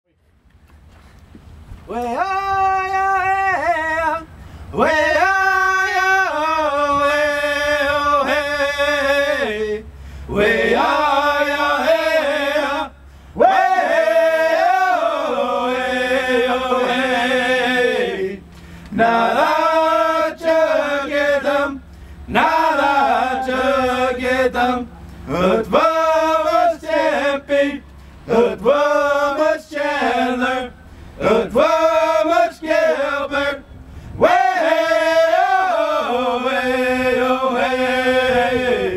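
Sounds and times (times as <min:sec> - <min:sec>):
man singing a slow chant: 0:01.9 - 0:33.6.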